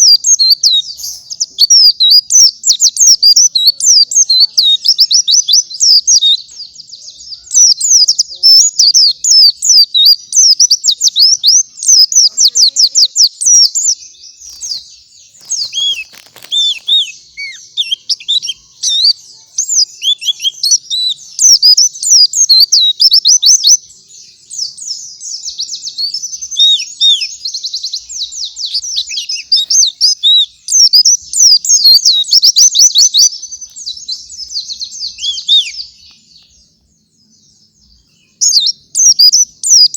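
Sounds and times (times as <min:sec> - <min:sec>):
bird singing chattering warble: 0:00.0 - 0:39.9.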